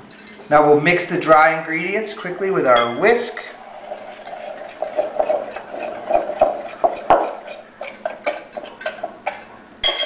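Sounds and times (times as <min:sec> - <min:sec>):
whisk scraping and tapping bowl: 0:00.1 - 0:10.0.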